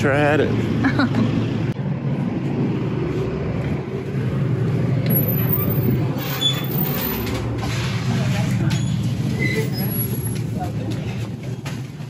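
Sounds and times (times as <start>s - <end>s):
vehicle rumble and hum: 0.0s - 12.0s.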